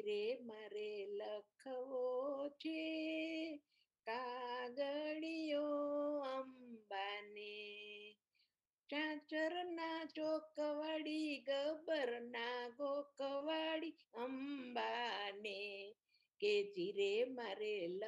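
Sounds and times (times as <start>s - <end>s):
woman singing unaccompanied: 0.0s - 8.2s, 8.9s - 18.0s.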